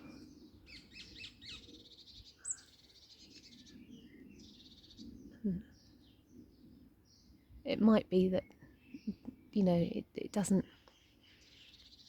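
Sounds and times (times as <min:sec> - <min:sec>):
birds singing and chirping: 0:00.0 - 0:12.0.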